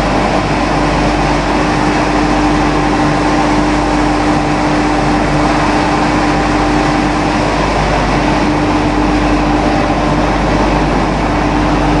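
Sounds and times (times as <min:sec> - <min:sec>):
pellet mill machinery humming: 0:00.0 - 0:12.0.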